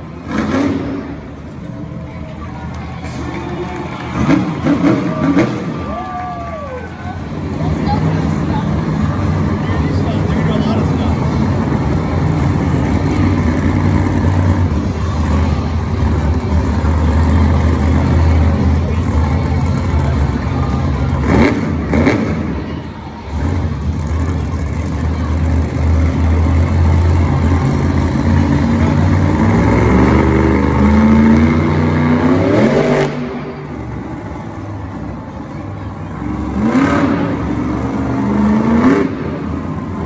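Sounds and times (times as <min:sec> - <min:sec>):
truck engine revving hard: 0:00.0 - 0:01.4, 0:03.6 - 0:06.0, 0:07.2 - 0:40.0.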